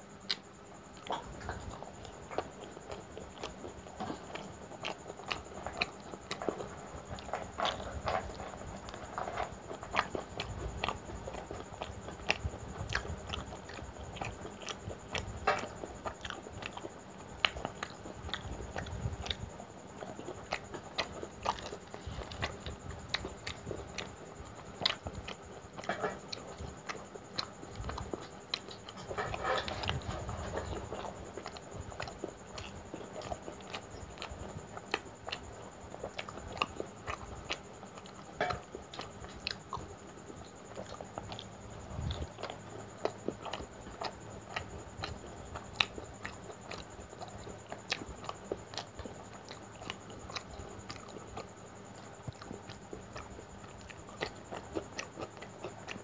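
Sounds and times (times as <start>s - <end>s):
person chewing: 0.2s - 56.0s.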